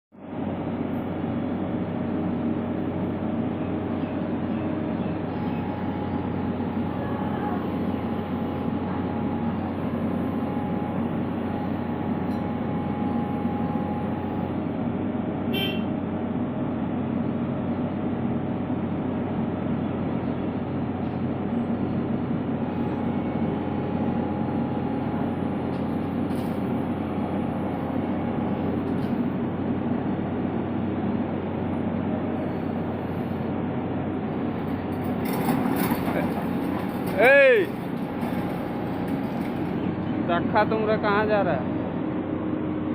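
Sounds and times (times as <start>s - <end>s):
excavator diesel engine running: 0.2s - 42.9s.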